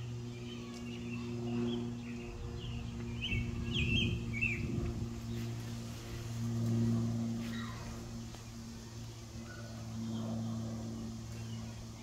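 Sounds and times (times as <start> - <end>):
low microphone rumble: 0.0 - 12.0
propeller plane droning overhead: 0.0 - 12.0
small birds chirping: 0.0 - 12.0.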